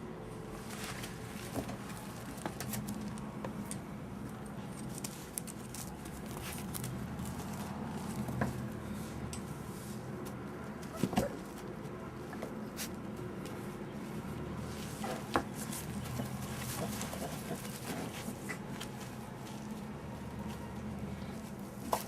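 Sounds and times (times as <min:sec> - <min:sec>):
puppy paws pattering and scrabbling: 0:00.6 - 0:09.3, 0:10.2 - 0:22.0.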